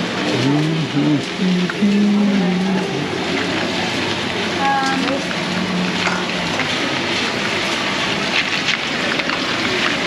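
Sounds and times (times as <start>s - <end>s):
heavy rain pouring: 0.0s - 10.0s
low steady hum: 0.0s - 10.0s
water splashes and drips: 0.0s - 10.0s.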